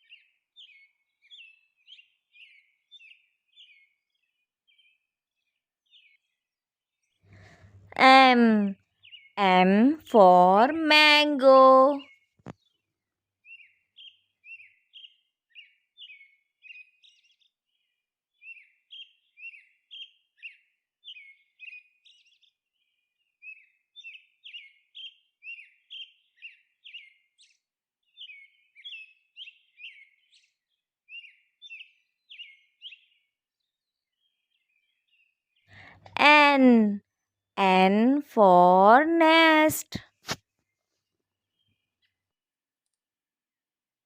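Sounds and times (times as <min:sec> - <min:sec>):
faint bird chirping: 0:00.0 - 0:12.9, 0:13.5 - 0:37.0.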